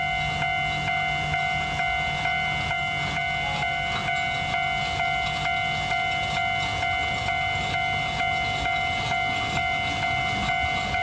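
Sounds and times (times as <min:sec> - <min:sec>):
level-crossing warning bell clanging: 0:00.0 - 0:11.0.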